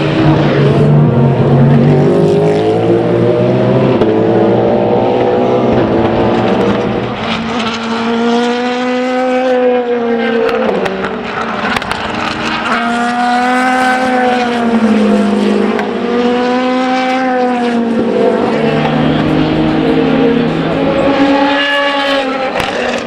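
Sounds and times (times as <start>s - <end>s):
race car engine: 0.0s - 23.0s
race car passing by: 0.0s - 23.0s.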